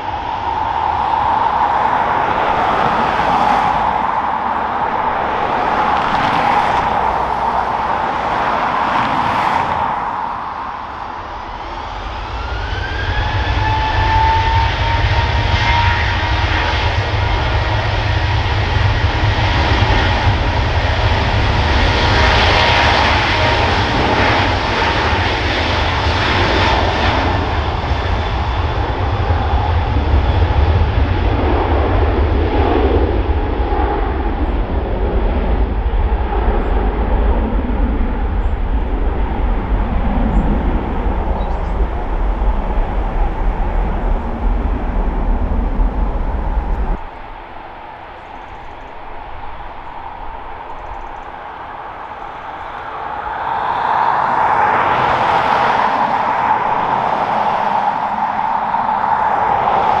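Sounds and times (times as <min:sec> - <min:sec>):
airliner engines whining: 0:00.0 - 1:00.0
wind buffeting microphone: 0:00.0 - 1:00.0.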